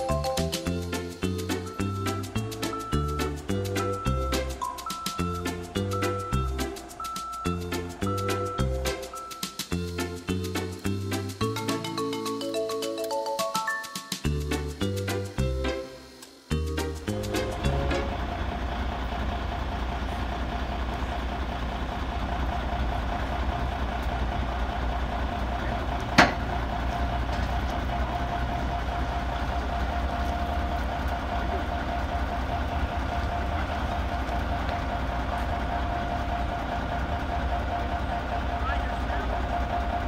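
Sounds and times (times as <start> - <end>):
diesel truck engine running: 0.0 - 13.6, 14.3 - 40.0.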